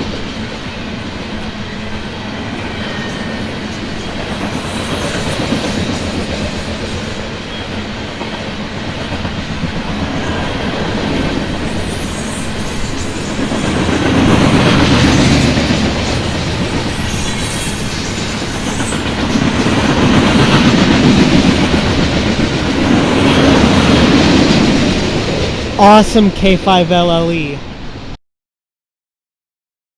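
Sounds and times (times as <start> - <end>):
train wheels rumbling on rails: 0.0 - 26.2.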